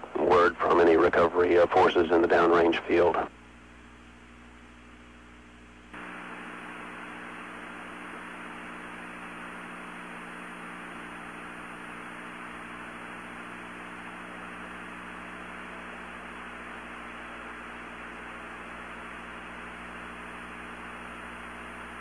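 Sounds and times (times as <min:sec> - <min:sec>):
faint high whine: 0:00.0 - 0:22.0.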